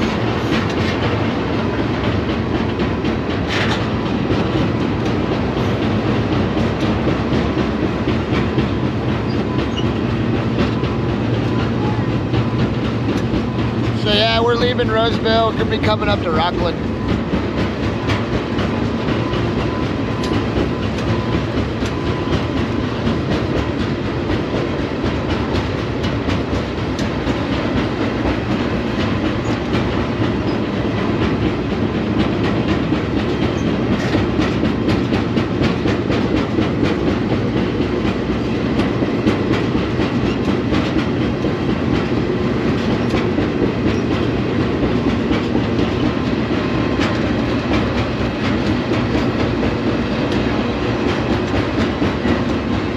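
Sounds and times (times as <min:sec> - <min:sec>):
rail clicks: 0:00.0 - 0:52.9
train wheels rumbling and rattling: 0:00.0 - 0:52.9.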